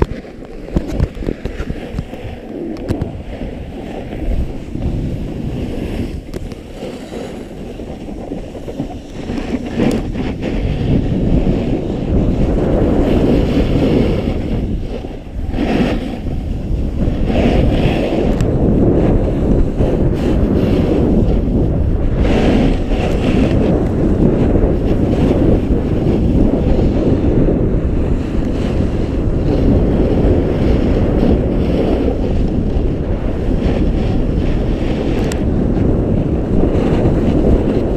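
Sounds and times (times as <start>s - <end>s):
snowboard scraping over snow: 0.0s - 37.9s
wind buffeting the microphone: 0.0s - 37.9s.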